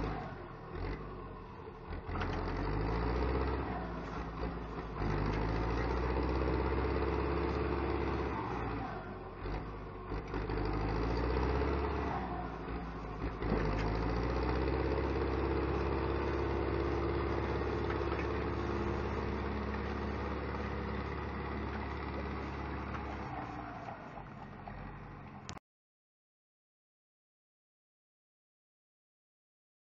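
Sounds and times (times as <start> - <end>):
tractor diesel engine running: 0.0 - 25.6.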